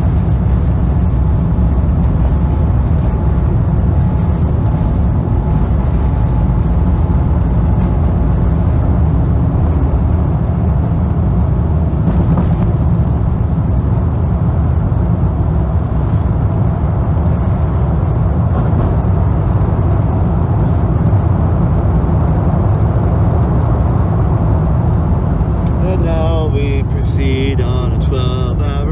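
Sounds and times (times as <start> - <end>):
jet cabin low rumble: 0.0 - 28.9.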